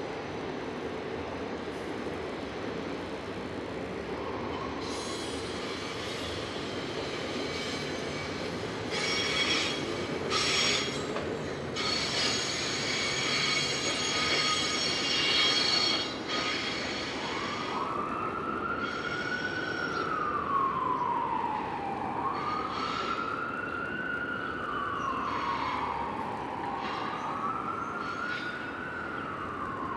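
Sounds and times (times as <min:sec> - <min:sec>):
train rumble: 0:00.0 - 0:29.9
train wheels squealing: 0:04.1 - 0:23.7, 0:24.7 - 0:29.9
siren wailing: 0:04.2 - 0:29.9.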